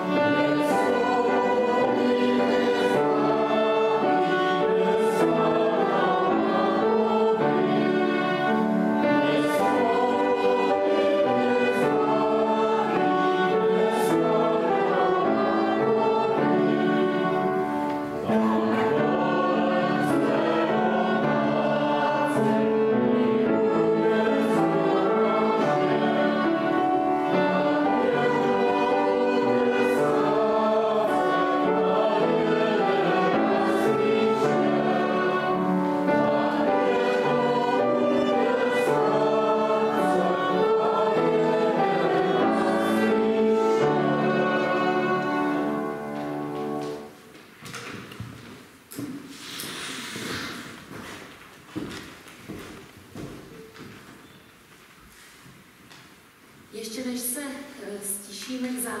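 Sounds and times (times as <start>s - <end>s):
choir singing: 0.0s - 47.2s
instrumental accompaniment: 0.0s - 47.4s.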